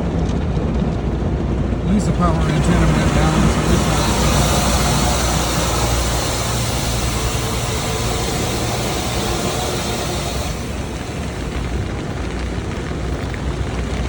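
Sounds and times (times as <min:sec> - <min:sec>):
low machinery rumble: 0:00.0 - 0:14.0
water spray hissing: 0:01.9 - 0:14.0.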